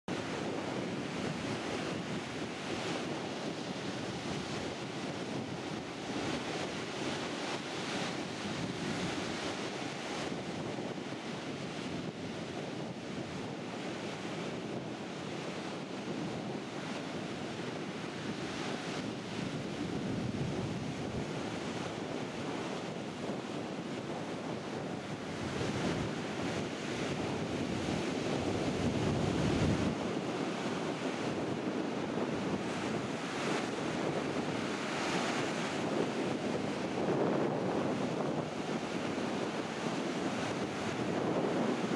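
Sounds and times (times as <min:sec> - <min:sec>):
waves breaking on sand: 0:00.1 - 0:41.9
wind buffeting microphone: 0:00.1 - 0:41.9.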